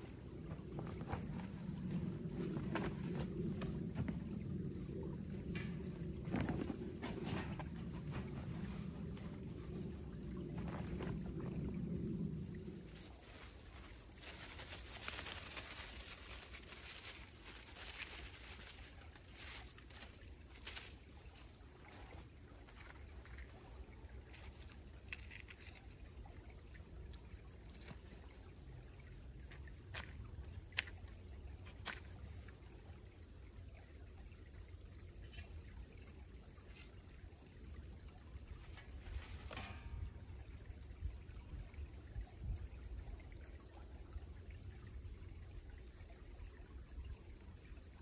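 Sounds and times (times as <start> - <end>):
creek water trickling: 0.0 - 48.0.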